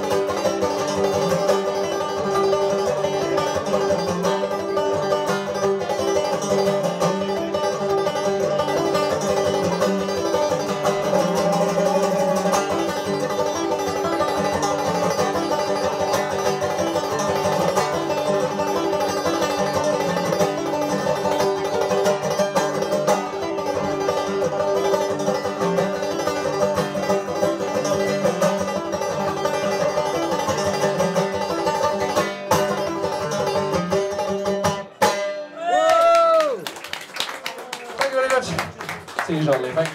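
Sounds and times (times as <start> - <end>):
banjo playing: 0.0 - 35.9.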